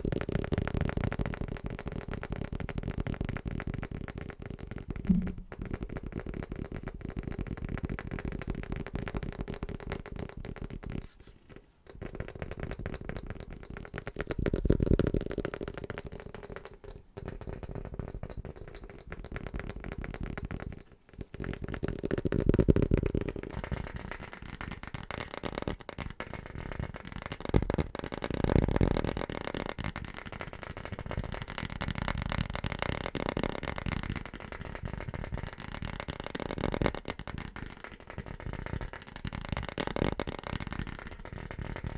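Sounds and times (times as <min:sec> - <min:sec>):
rapid tapping on objects: 0:00.0 - 0:41.9.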